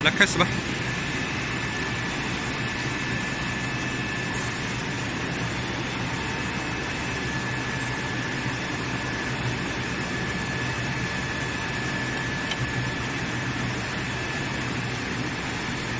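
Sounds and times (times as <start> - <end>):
machinery high whine: 0.0 - 15.9
machinery low hum: 0.0 - 15.9.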